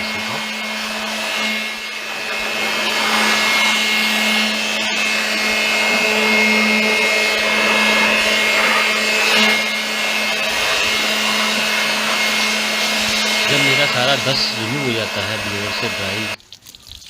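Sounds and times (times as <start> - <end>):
electric air blower whine: 0.0 - 16.4.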